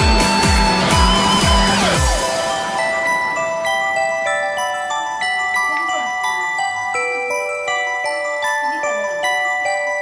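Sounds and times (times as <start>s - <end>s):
bell-like melody: 0.0s - 10.0s.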